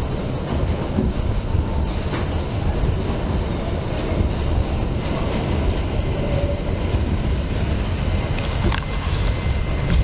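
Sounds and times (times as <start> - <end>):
subway train rumbling on track: 0.0 - 10.0.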